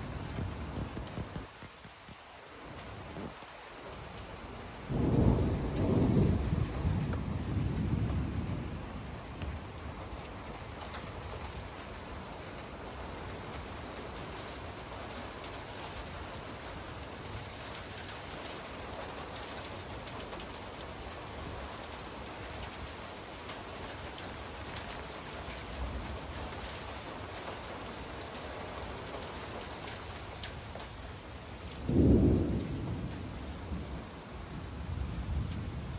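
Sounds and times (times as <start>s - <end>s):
steady rain hissing: 0.0s - 35.9s.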